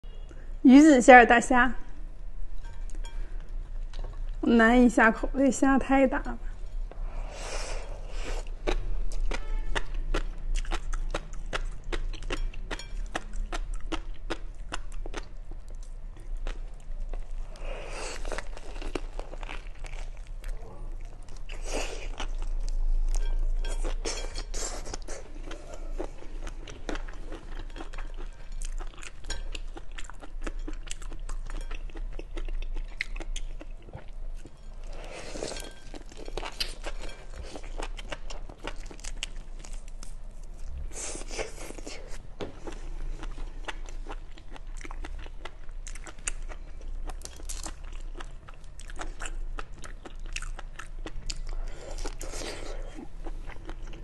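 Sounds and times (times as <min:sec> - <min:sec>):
chewing: 0:07.8 - 0:54.0.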